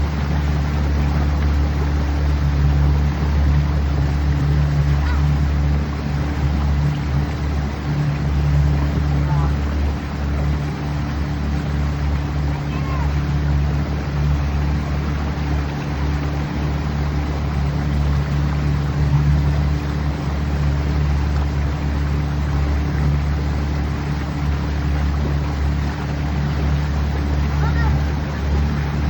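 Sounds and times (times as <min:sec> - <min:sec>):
boat motor humming: 0:00.0 - 0:29.0
rushing water: 0:00.0 - 0:29.0.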